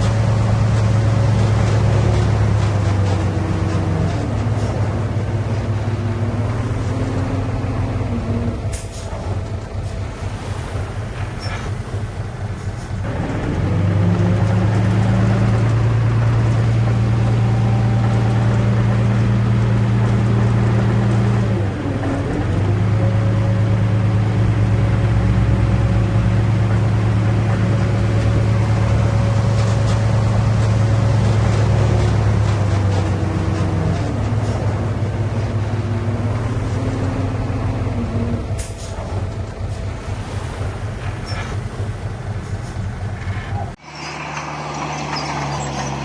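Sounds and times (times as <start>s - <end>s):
heavy diesel engine under load: 0.0s - 46.0s.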